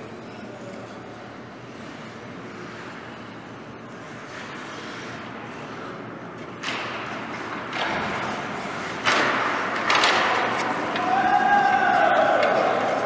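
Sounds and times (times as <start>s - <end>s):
skates and sticks on ice: 0.0s - 13.0s.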